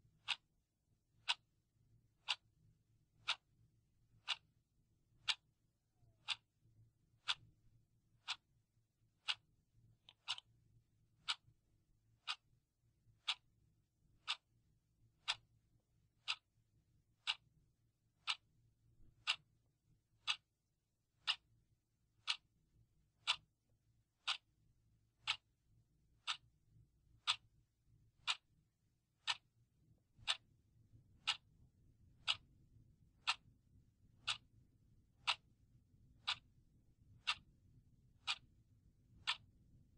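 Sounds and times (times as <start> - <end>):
clock ticking: 0.0 - 0.5, 1.1 - 39.9.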